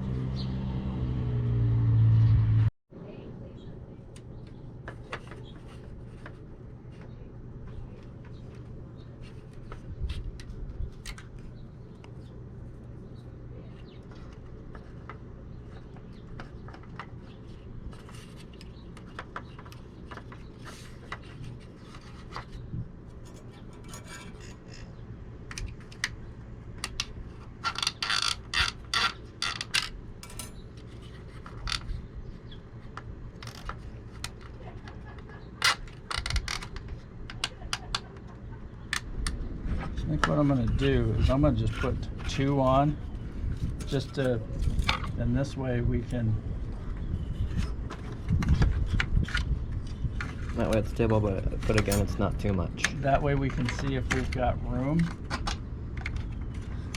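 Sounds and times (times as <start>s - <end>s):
steady low hum: 1.1s - 56.9s.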